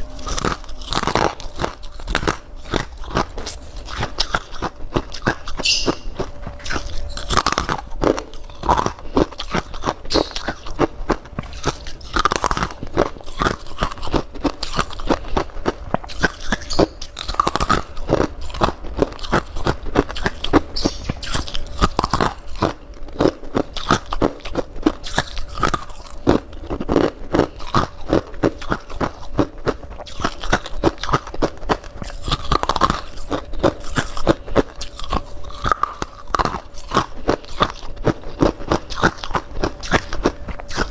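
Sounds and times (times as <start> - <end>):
faint steady hum: 0.0 - 40.9
person crunching and chewing ice: 0.0 - 40.9.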